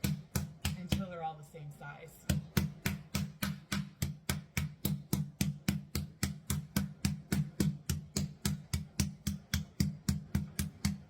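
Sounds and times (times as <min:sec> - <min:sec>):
meat being pounded: 0:00.0 - 0:01.2, 0:02.2 - 0:11.0.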